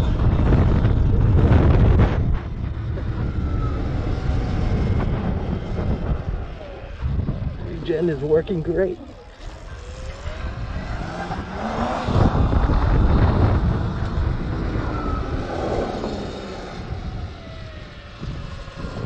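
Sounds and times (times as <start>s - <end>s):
electric motor whining: 0.0s - 19.0s
wind rush on microphone: 0.0s - 19.0s.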